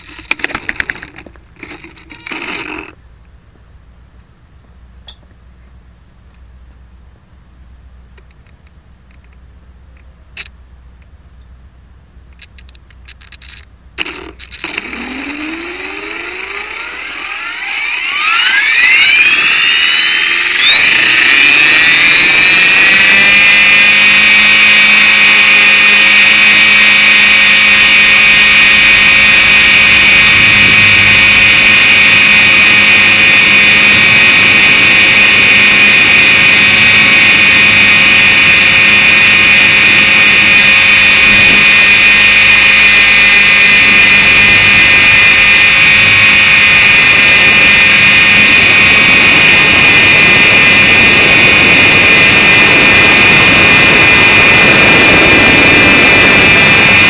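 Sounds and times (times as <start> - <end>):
rc helicopter motor whine: 0.0 - 3.0, 13.0 - 57.0.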